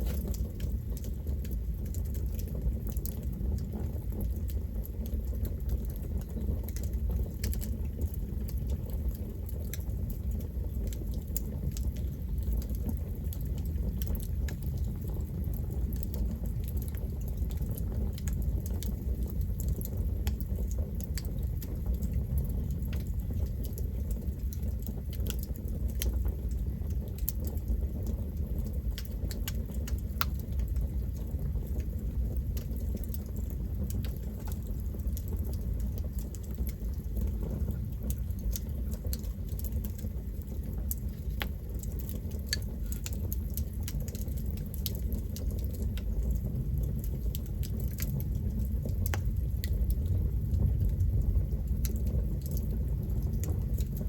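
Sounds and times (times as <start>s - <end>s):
flames rumbling: 0.0s - 54.0s
wood crackling and popping: 0.0s - 54.0s.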